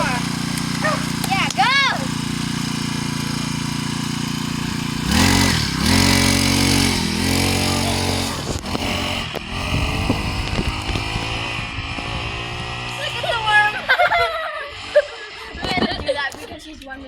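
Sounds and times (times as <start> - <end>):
dirt bike engine revving: 0.0 - 16.5.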